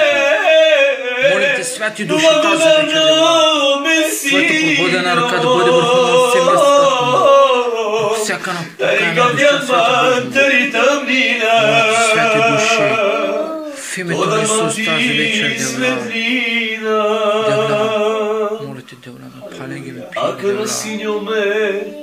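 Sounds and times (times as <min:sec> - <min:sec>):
men singing unaccompanied: 0:00.0 - 0:22.0.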